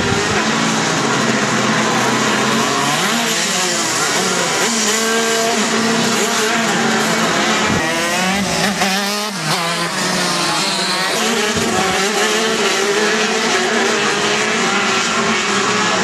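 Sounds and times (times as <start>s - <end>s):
kart engines buzzing: 0.0s - 16.0s.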